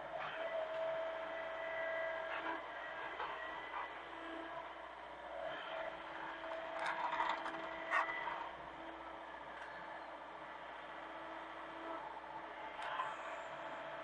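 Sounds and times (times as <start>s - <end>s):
mini excavator humming: 0.0s - 14.0s.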